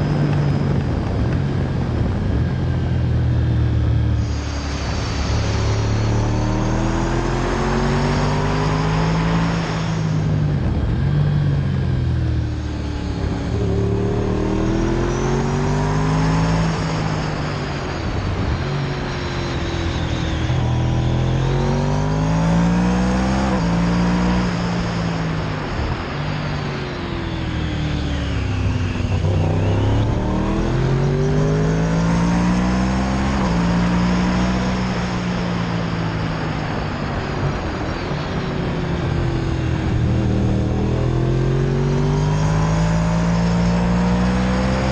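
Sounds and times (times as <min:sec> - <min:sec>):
motorcycle engine accelerating: 0:00.0 - 0:44.9
wind and road noise: 0:00.0 - 0:44.9.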